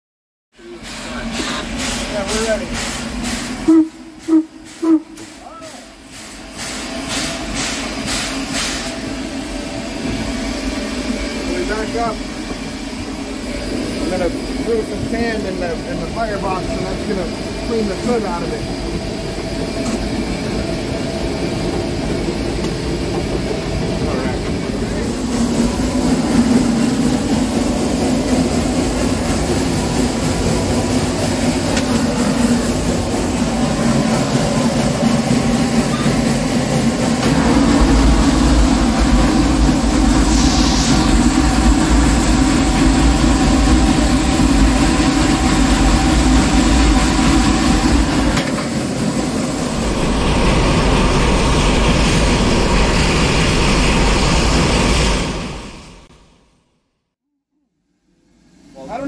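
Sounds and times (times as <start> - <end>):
steam locomotive running: 0.6 - 56.3
steam billowing: 0.6 - 56.5.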